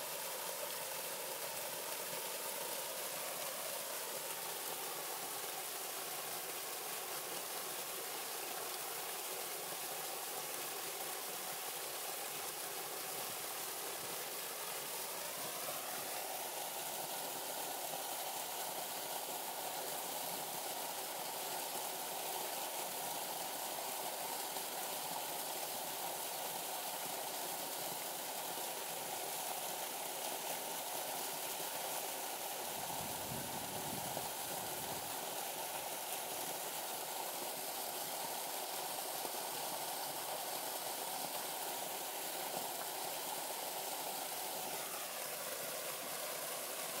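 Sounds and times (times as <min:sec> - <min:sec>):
small waterfall splashing into pool: 0:00.0 - 0:47.0.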